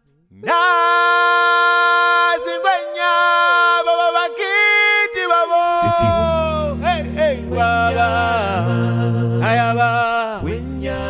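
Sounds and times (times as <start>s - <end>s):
unaccompanied sung chant: 0.4s - 11.0s.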